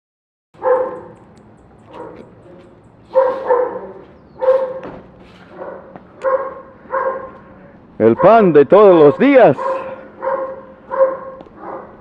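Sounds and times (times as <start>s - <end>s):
dog barking: 0.6s - 1.2s, 1.8s - 7.4s, 8.0s - 12.0s.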